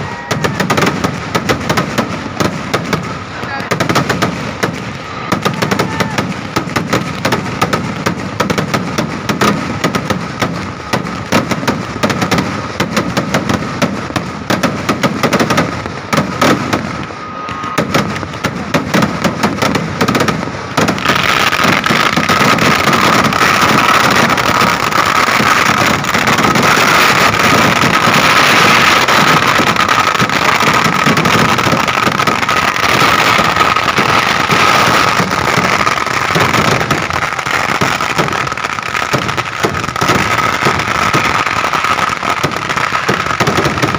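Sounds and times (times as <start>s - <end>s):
crackling roar of rockets launching: 0.0s - 43.9s
firecrackers banging: 0.0s - 43.9s.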